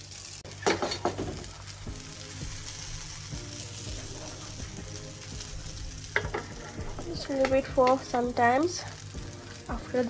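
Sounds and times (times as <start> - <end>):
patties sizzling in hot oil: 0.0 - 10.0.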